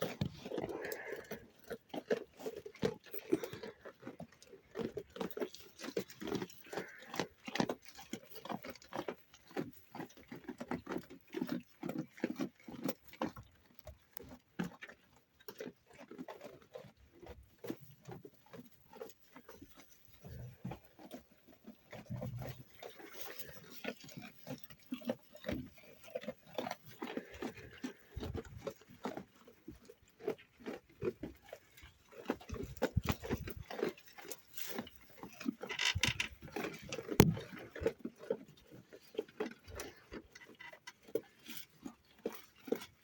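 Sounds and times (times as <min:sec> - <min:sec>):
sheep crunching grain: 0:00.0 - 0:43.0.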